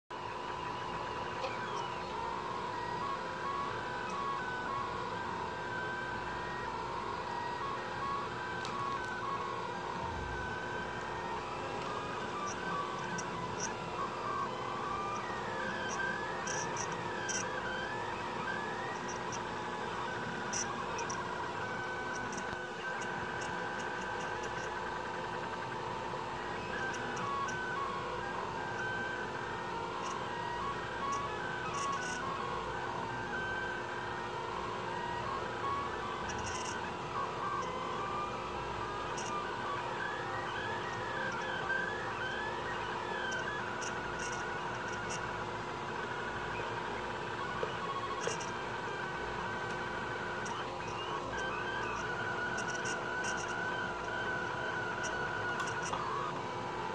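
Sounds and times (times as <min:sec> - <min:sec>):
steady hum: 0:00.1 - 0:56.9
stepper motors whining: 0:00.1 - 0:56.9.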